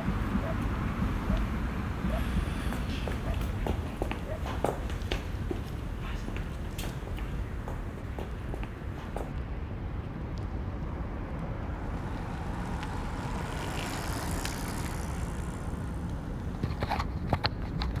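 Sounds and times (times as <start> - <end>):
vehicle passing: 0.0 - 9.9, 10.5 - 17.2
low street rumble: 0.0 - 18.0.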